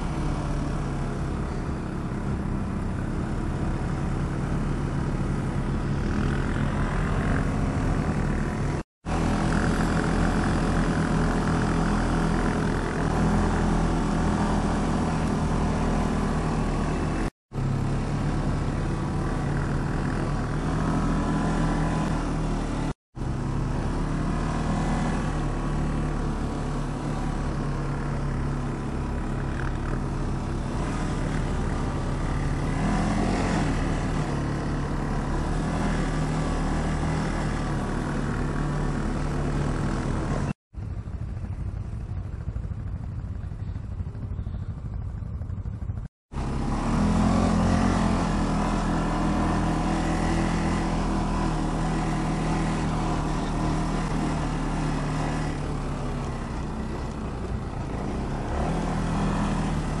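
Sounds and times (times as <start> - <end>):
atv engine running: 0.0 - 60.0.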